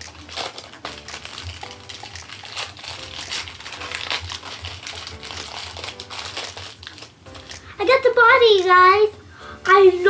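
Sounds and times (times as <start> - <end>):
wrapper crinkling: 0.0 - 8.7.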